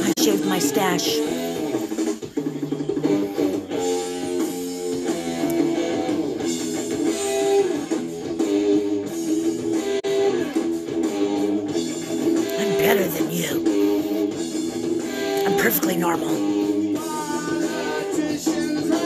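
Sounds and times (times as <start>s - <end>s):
guitar music: 0.0s - 18.2s.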